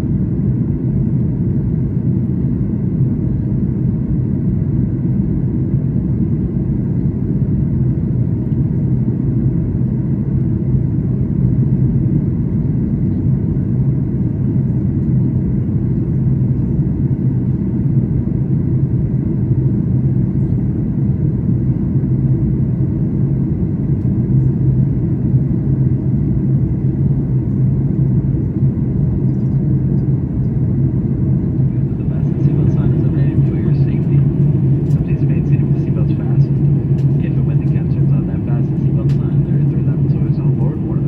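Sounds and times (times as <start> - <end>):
airplane cabin drone: 0.0 - 41.0
constant low hum: 0.0 - 41.0.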